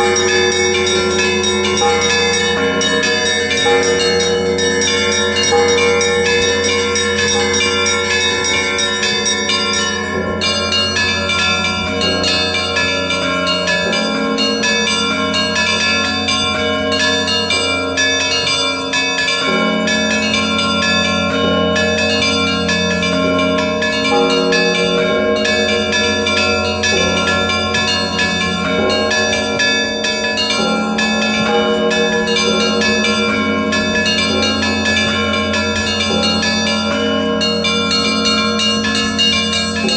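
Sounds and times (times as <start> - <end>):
large bells humming: 0.0 - 39.9
small bells struck quickly: 0.0 - 39.9.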